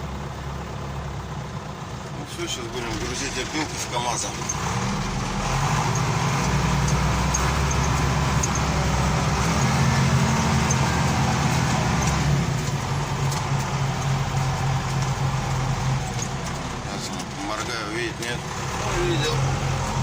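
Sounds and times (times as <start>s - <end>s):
loader diesel engine running: 0.0s - 20.0s.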